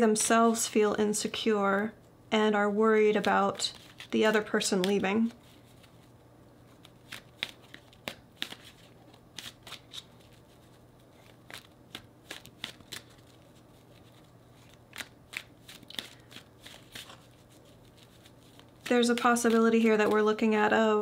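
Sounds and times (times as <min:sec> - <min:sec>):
cards being shuffled: 0:03.1 - 0:20.4.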